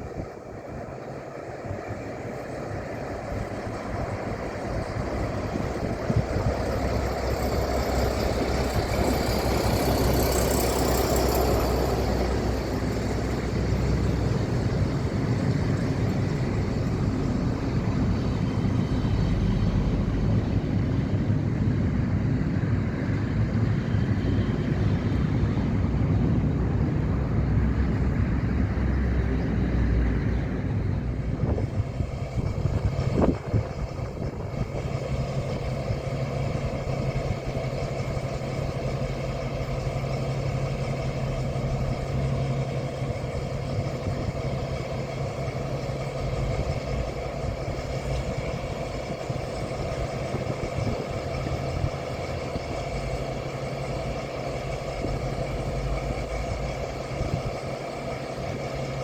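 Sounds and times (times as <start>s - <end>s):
train engine drone: 0.0s - 59.0s.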